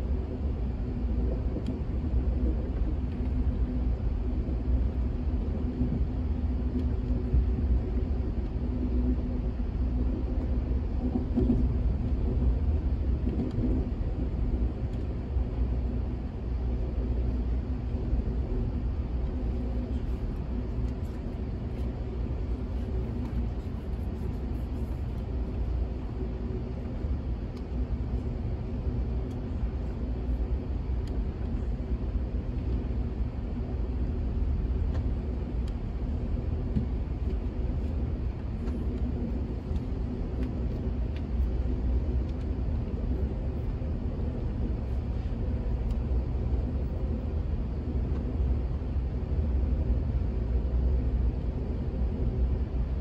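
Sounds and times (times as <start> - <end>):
train wheels rumbling on rails: 0.0 - 48.4.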